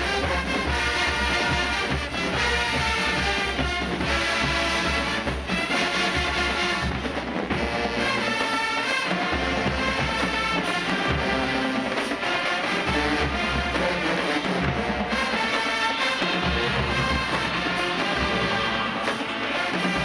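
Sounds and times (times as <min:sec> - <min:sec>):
marching band brass: 0:00.0 - 0:20.0
marching band drums: 0:00.0 - 0:20.0.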